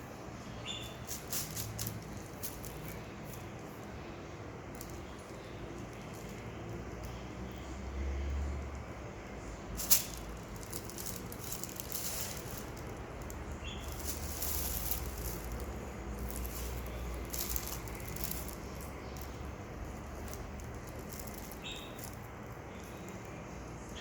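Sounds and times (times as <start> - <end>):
light scratching and rustling: 0.0 - 7.8, 8.4 - 24.0.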